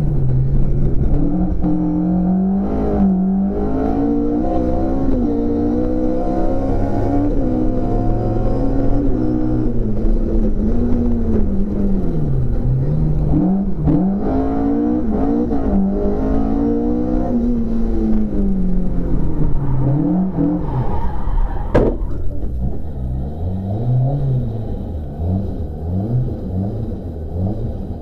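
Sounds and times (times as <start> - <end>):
car engine at speed from cabin: 0.0 - 28.0.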